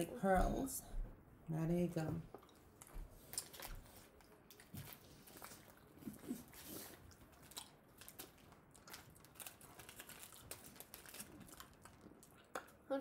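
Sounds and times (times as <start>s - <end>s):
chewing hard candy: 2.3s - 12.9s.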